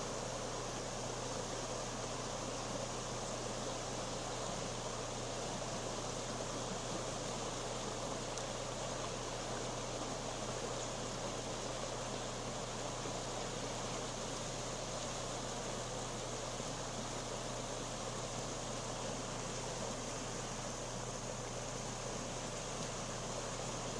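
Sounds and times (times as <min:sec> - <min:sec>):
rushing creek water: 0:00.0 - 0:23.9.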